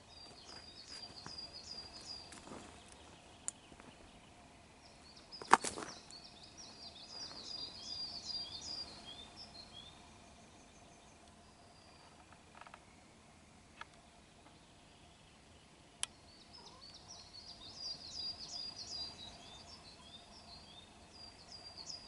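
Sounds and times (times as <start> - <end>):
songbird chirping: 0.0 - 22.0.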